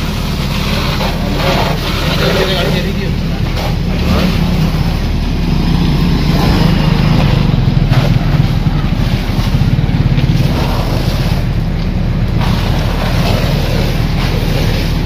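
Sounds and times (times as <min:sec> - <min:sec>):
engine rumbling: 0:00.0 - 0:15.0
hose jet spraying water: 0:00.0 - 0:15.0.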